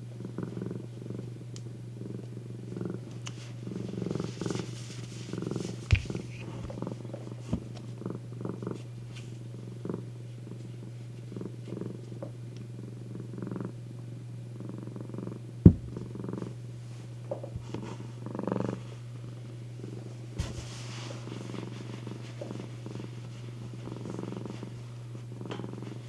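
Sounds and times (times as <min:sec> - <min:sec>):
cat purring: 0:00.0 - 0:16.7, 0:17.3 - 0:26.0.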